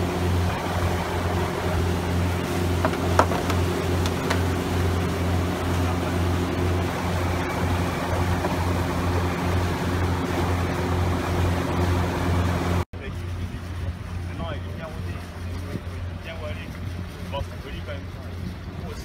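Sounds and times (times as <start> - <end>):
boat engine drone: 0.0 - 19.0
water wash alongside boat: 0.0 - 19.0.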